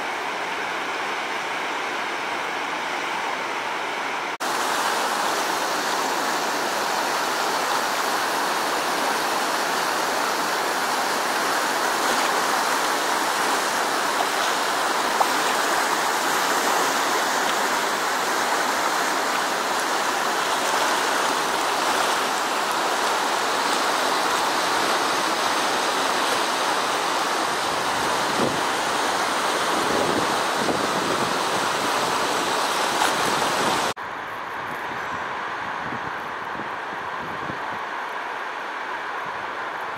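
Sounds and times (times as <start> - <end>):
water rushing over boulders: 0.0 - 34.0.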